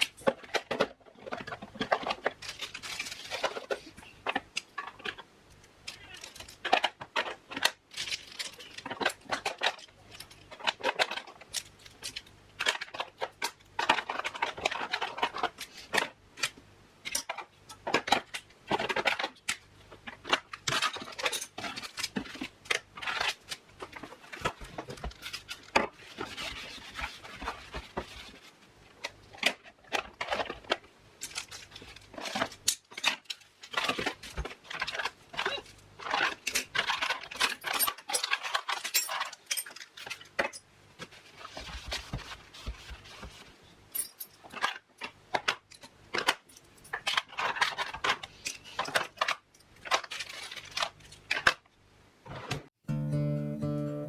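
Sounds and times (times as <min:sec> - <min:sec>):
rubbing and rustling: 0:00.0 - 0:16.3, 0:17.3 - 0:51.6.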